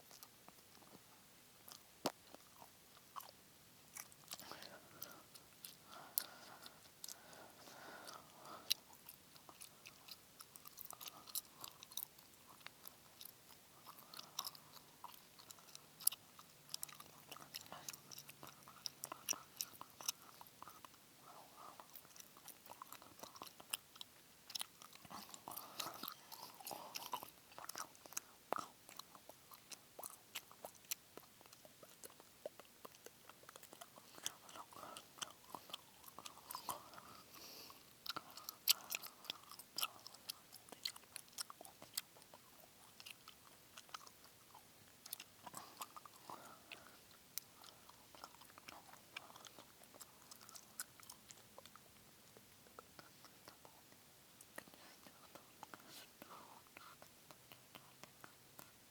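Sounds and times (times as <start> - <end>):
gum chewing mouth smacks: 0.0 - 1.0, 1.6 - 58.8.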